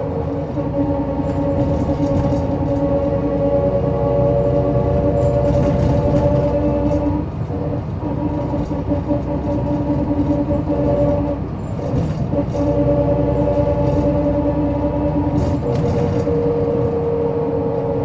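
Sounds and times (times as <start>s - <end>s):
bus engine droning: 0.0s - 18.0s.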